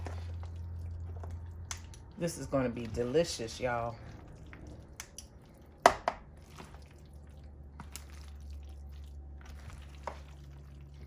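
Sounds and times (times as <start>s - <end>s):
low steady hum: 0.0s - 11.0s
wet squishing of stirred noodles: 0.0s - 11.0s.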